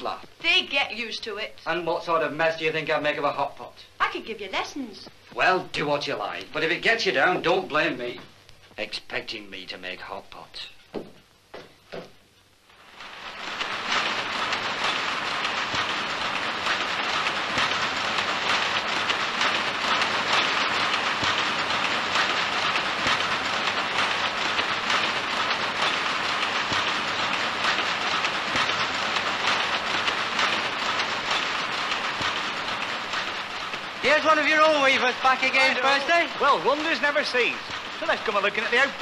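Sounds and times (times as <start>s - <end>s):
power looms clattering: 0.0s - 8.3s, 11.7s - 39.0s.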